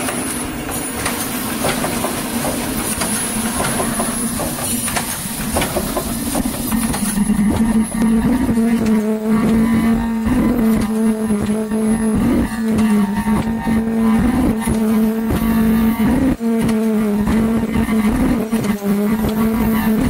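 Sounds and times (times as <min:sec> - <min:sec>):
packing machine clicking and clattering: 0:00.0 - 0:13.6, 0:14.2 - 0:20.0
machine hum: 0:00.0 - 0:20.0.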